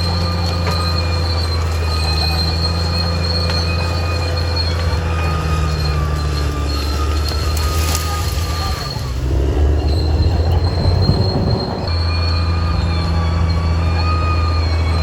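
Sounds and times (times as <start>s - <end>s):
bulldozer diesel engine humming: 0.0s - 15.0s
steel tracks squealing: 0.0s - 15.0s.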